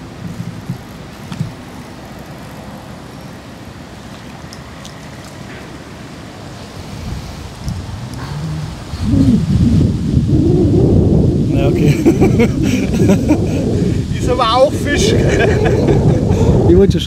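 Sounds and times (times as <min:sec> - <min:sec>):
wind rushing over microphone: 0:00.0 - 0:04.0, 0:05.7 - 0:17.0.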